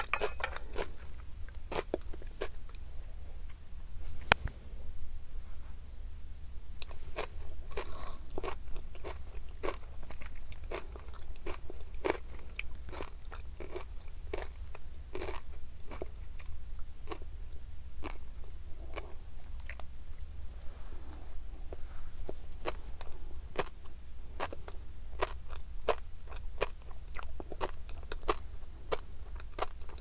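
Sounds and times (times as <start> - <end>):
chewing fish roe: 0.1 - 3.6, 6.8 - 20.3, 22.3 - 30.0.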